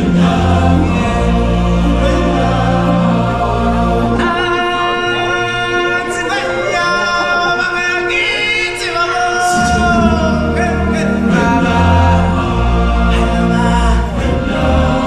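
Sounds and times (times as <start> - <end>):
choir singing held notes: 0.0 - 15.0
stage show music: 0.0 - 15.0.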